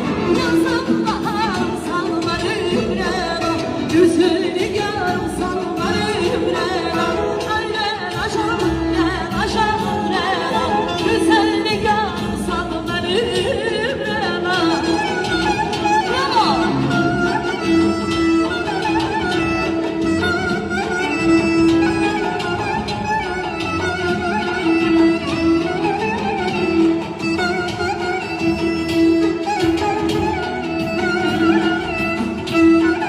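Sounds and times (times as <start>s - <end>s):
instrumental backing: 0.0s - 33.0s.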